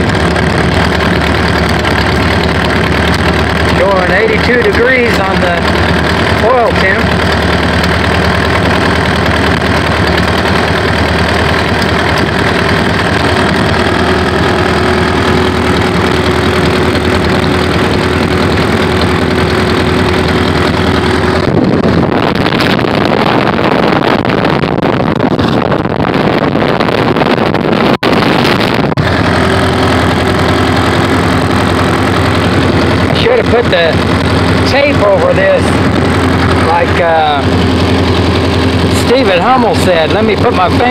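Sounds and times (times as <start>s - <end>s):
aircraft engine running: 0.0s - 40.9s.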